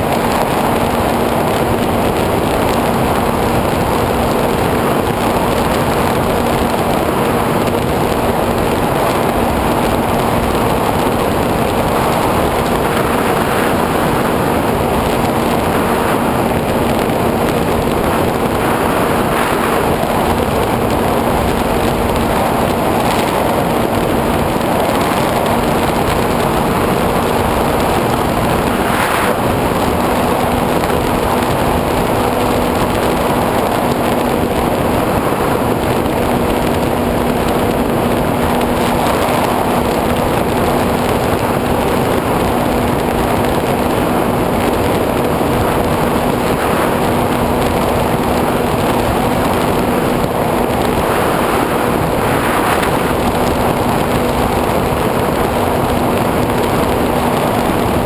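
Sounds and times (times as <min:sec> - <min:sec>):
air rushing over camera: 0:00.0 - 0:58.0
electric motor and propeller hum: 0:00.0 - 0:58.0.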